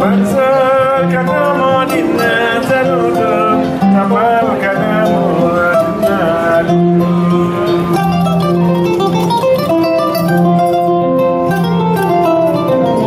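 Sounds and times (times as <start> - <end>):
plucked kora melody: 0.0 - 13.0.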